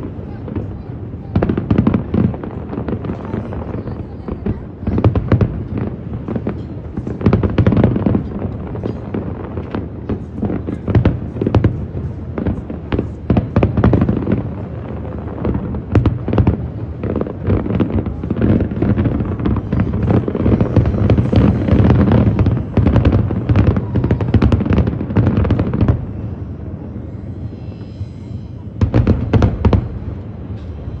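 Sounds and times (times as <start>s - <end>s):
fireworks bangs: 0.0s - 27.6s, 28.5s - 31.0s.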